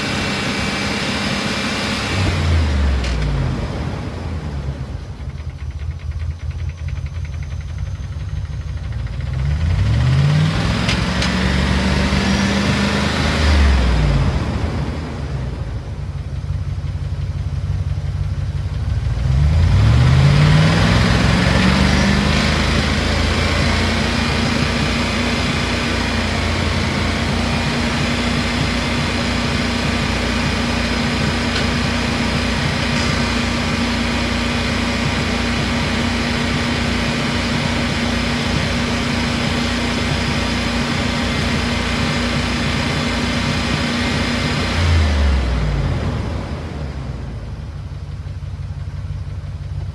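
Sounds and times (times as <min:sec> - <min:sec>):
car engine revving: 0:00.0 - 0:17.0, 0:18.8 - 0:48.4.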